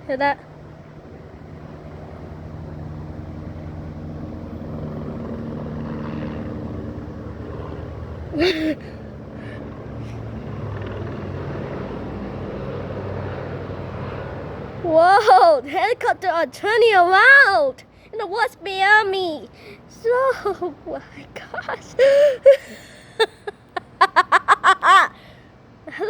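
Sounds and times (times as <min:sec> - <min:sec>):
helicopter flying overhead: 0:00.0 - 0:26.0.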